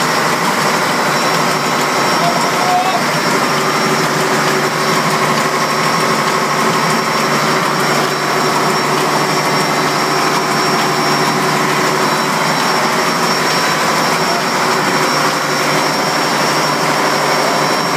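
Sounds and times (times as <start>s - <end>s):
diesel engine running: 0.0s - 17.9s
valves clattering: 0.0s - 17.9s.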